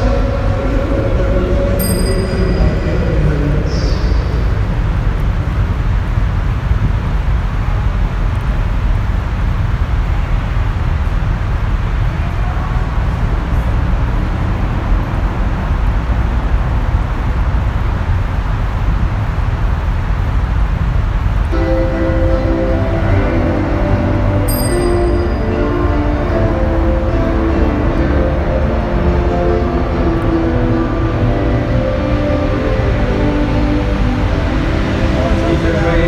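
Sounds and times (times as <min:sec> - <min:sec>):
vehicle road and engine rumble: 0:00.0 - 0:36.0.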